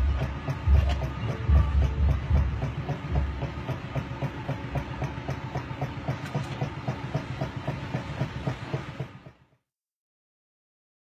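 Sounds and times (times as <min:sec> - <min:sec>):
fan mechanism clicking: 0:00.0 - 0:09.4.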